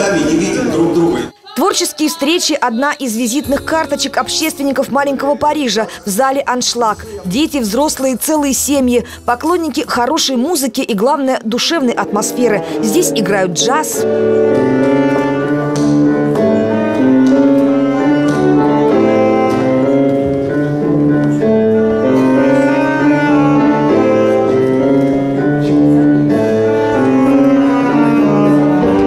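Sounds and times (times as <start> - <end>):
jazz band playing: 3.1 - 29.0.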